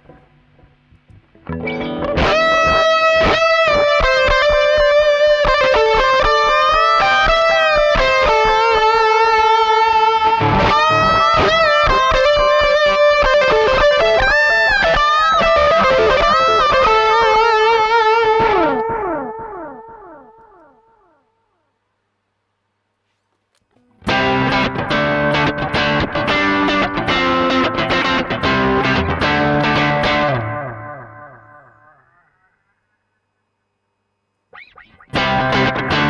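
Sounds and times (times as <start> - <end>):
electric guitar with echoing delay: 0.0 - 21.5, 24.0 - 33.0, 34.5 - 36.0.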